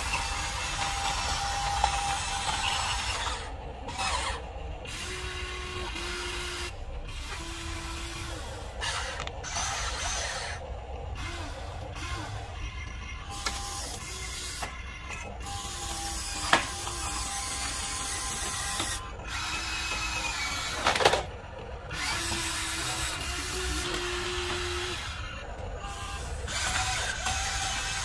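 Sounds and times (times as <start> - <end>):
short motor whines: 0.0 - 28.0
toy excavator motors whirring: 0.0 - 28.0.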